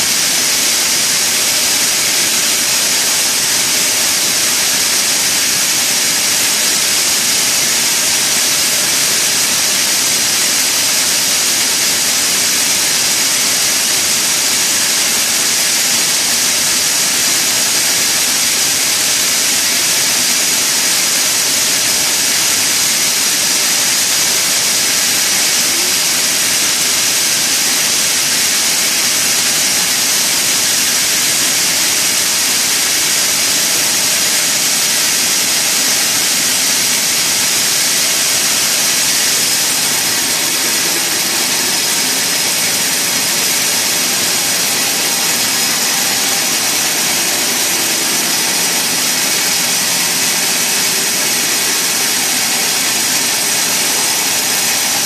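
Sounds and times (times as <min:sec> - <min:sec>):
sawmill machinery hissing: 0:00.0 - 0:55.0.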